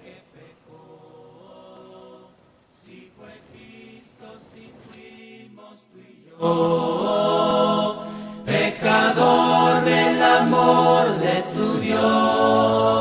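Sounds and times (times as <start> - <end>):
voices singing a hymn: 0.0 - 13.0.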